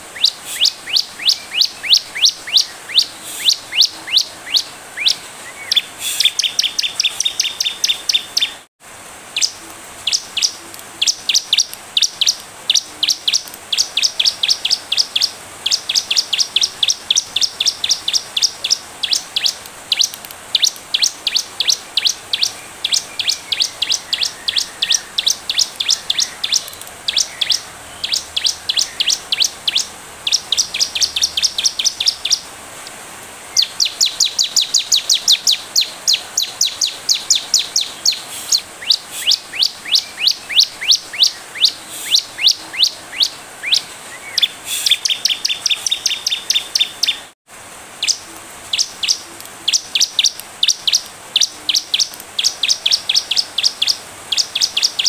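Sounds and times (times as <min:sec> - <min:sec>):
bird chirping rapidly: 0:00.0 - 0:08.7, 0:09.3 - 0:47.4, 0:48.0 - 0:55.0.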